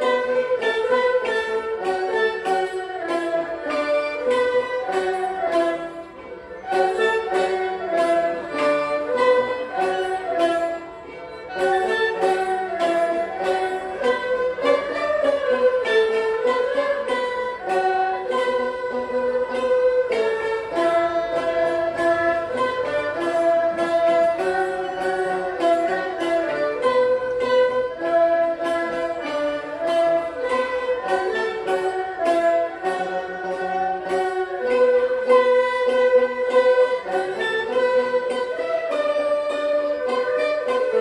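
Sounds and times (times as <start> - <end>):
bowed fiddles playing melody: 0.0 - 41.0
plucked string notes: 0.0 - 41.0.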